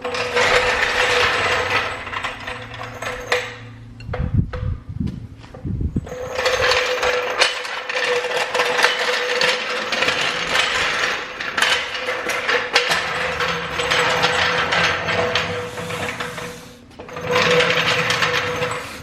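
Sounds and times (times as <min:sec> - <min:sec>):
car jack rattling and clicking: 0:00.0 - 0:04.7, 0:06.1 - 0:19.0.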